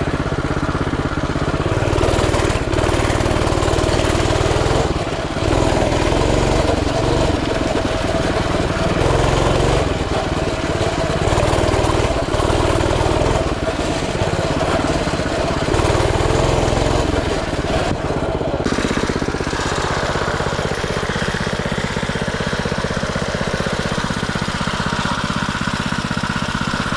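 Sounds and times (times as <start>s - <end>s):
small motorbike engine revving: 0.0s - 26.9s.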